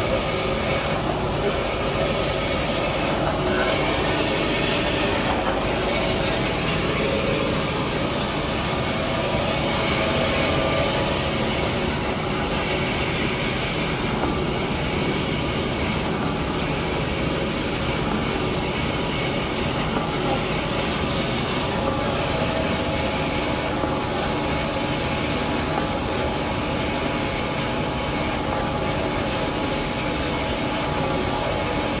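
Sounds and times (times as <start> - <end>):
band saw machine running: 0.0 - 32.0.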